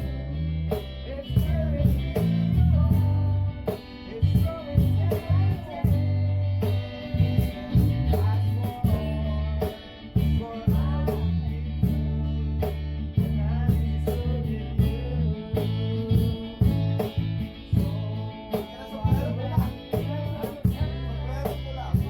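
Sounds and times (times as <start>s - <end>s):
guitar playing: 0.0s - 22.0s
sustained bass notes: 0.0s - 22.0s.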